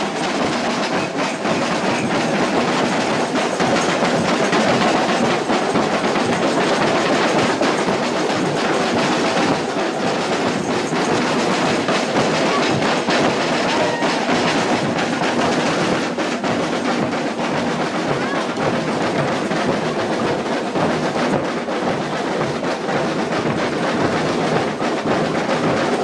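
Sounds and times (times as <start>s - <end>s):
crowd noise: 0.0s - 26.0s.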